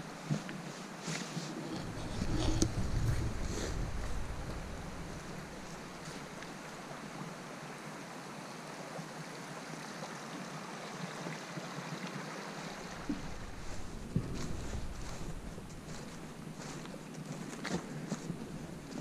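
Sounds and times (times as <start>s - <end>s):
creek running over stones: 0.0s - 19.0s.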